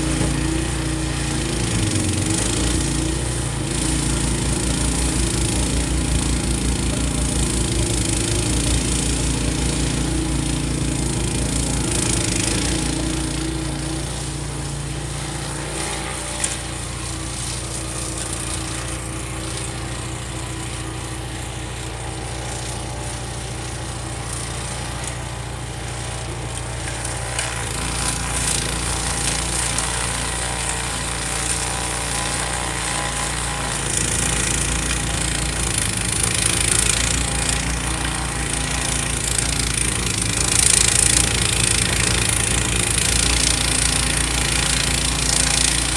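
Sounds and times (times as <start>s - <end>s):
snowblower engine running: 0.0s - 45.9s.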